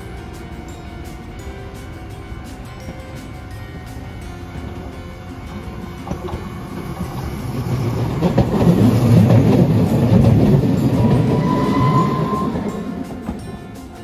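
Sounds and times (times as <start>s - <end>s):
tram wheel squeal: 0.0s - 14.0s
tram wheels rumbling on rails: 0.0s - 14.0s.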